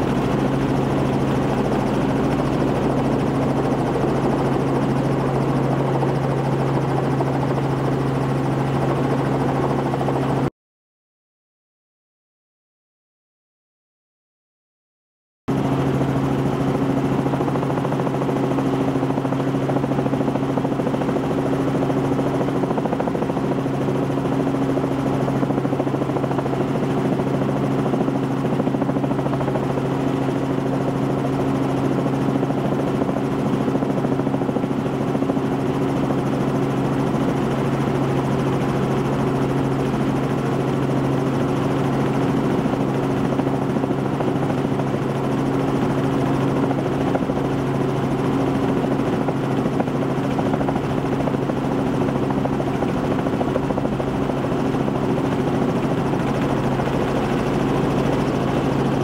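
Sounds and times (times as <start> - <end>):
helicopter engine and rotor drone: 0.0 - 10.5, 15.5 - 59.0.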